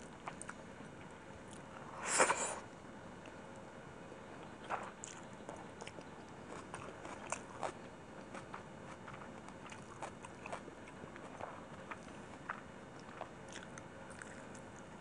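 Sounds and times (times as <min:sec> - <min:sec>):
person chewing food: 0:00.0 - 0:02.6, 0:04.4 - 0:15.0.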